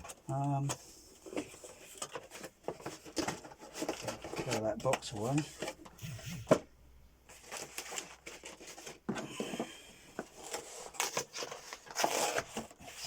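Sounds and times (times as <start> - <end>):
packaging rustling and crinkling: 0.0 - 5.9, 7.3 - 13.0.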